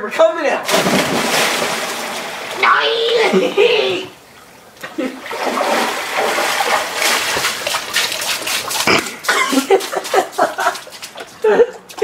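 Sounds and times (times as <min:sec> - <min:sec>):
water splashing and streaming: 0:00.6 - 0:03.3, 0:04.2 - 0:12.0.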